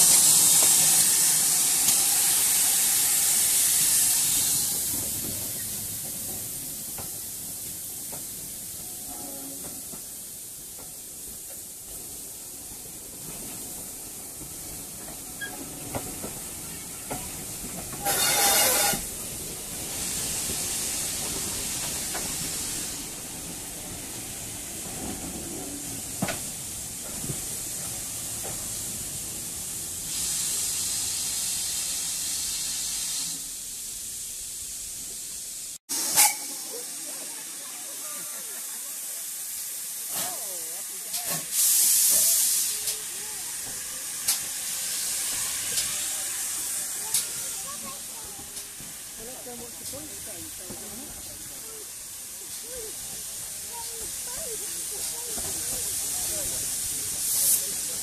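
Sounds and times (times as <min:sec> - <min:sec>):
steam hissing: 0:00.0 - 0:58.0
train coaches rolling on rails: 0:00.0 - 0:58.0.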